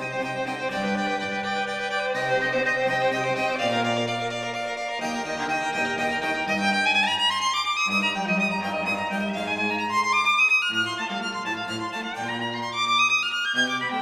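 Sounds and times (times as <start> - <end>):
lower musical accompaniment: 0.0 - 14.0
violin playing rising runs: 0.0 - 14.0.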